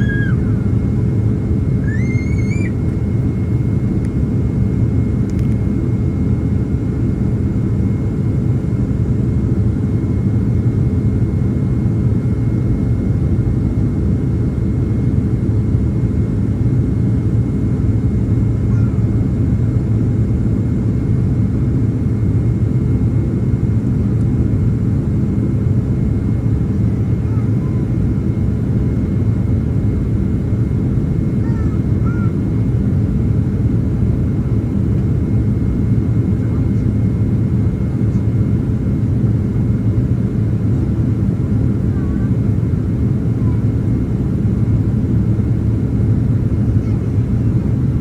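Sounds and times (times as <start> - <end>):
airliner cabin rumble: 0.0 - 48.0.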